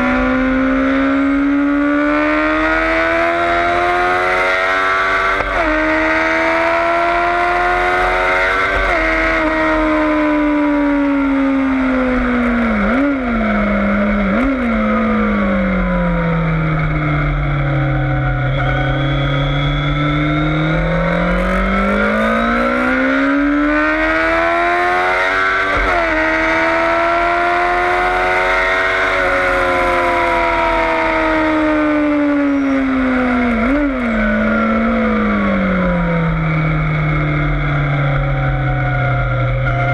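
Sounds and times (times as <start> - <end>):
motorcycle engine revving: 0.0 - 39.9
throttle blips on downshifts: 0.0 - 39.9.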